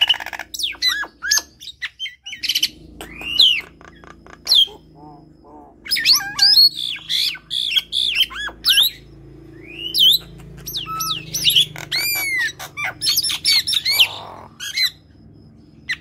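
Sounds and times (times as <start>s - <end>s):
bird squawks: 0.0s - 15.0s
birds whistling: 0.0s - 16.0s.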